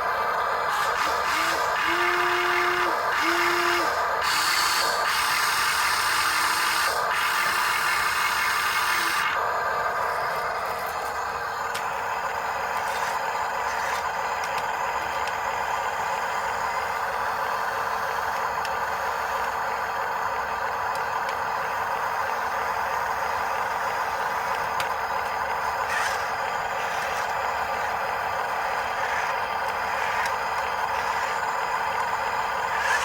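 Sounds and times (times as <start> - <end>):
electric motor and gearbox whirring: 0.0 - 33.0.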